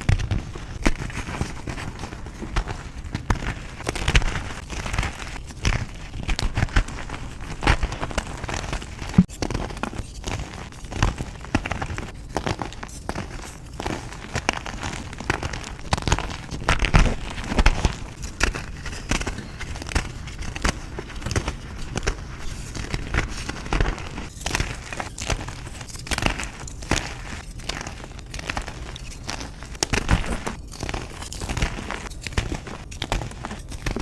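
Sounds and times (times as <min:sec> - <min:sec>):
chalk crunching and crumbling: 0:00.0 - 0:34.0.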